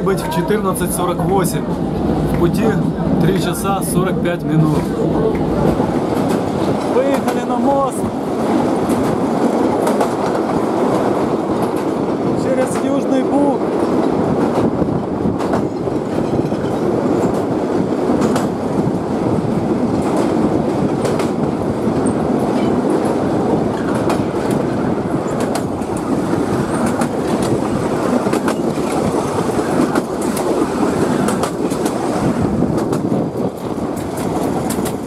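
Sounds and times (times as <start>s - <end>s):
train wheels rumbling on rails: 0.0s - 35.0s
wheels clacking over rail joints: 4.5s - 35.0s.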